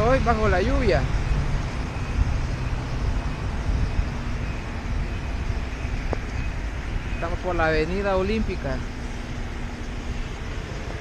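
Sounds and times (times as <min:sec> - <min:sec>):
faint engine hum: 0:00.0 - 0:11.0
traffic on a wet street: 0:00.0 - 0:11.0.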